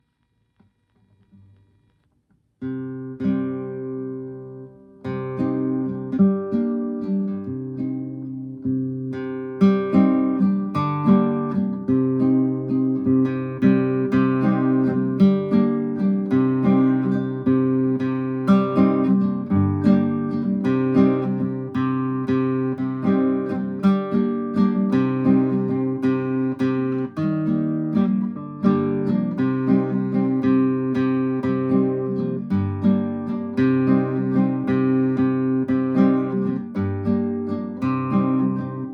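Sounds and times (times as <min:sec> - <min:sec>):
nylon-string guitar strummed chords: 0:02.6 - 0:38.9.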